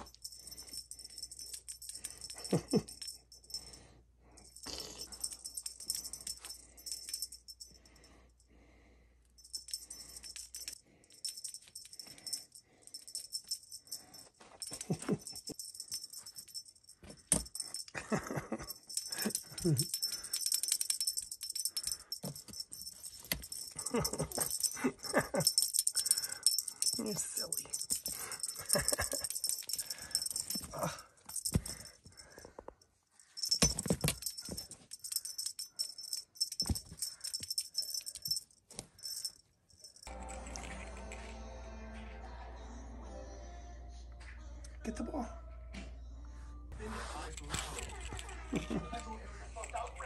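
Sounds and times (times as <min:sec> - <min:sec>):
small bell jingling: 0:00.0 - 0:08.5, 0:09.3 - 0:41.3, 0:47.3 - 0:50.0.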